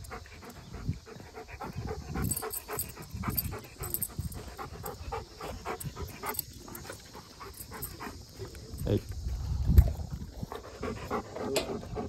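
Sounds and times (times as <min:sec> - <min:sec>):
dog panting: 0:00.0 - 0:08.7, 0:10.3 - 0:12.0.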